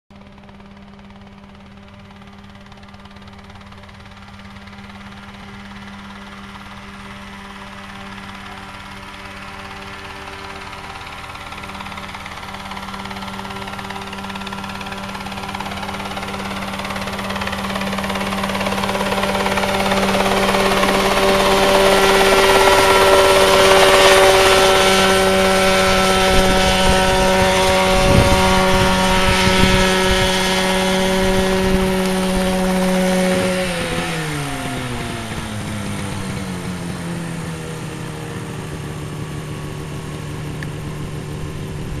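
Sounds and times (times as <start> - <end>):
helicopter engine and rotor: 0.1 - 42.0.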